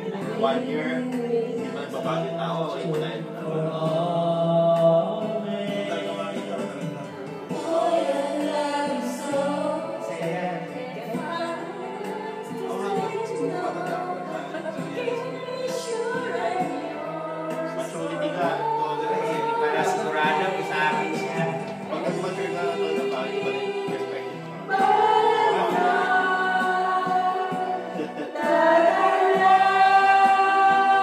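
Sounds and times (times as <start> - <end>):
person singing karaoke: 0.0 - 31.0
recorded backing track: 0.0 - 31.0.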